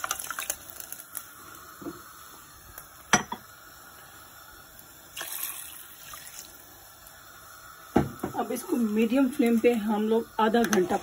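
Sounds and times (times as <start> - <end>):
water pouring into pot: 0.0 - 11.0.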